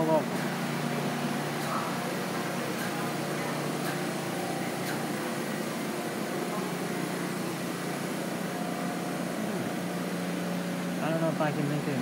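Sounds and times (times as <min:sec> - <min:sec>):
subway train wheels on rail: 0:00.0 - 0:12.0.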